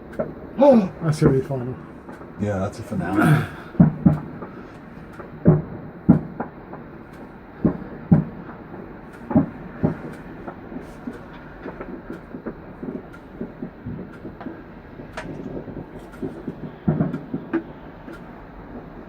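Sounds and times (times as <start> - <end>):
faint fireworks crackling: 0.0 - 19.0
distant fireworks bangs: 3.6 - 19.0.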